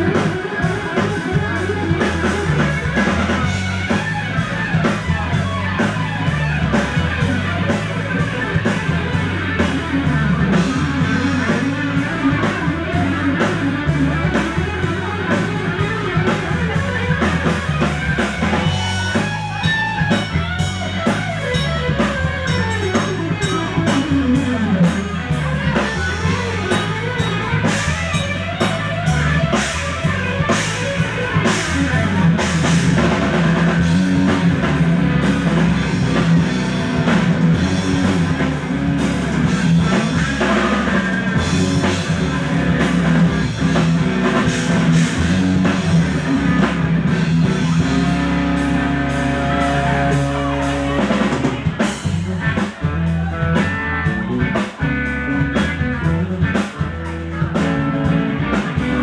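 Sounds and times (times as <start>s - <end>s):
drum kit: 0.0s - 59.0s
electric guitar: 0.0s - 59.0s
rock band playing: 0.0s - 59.0s.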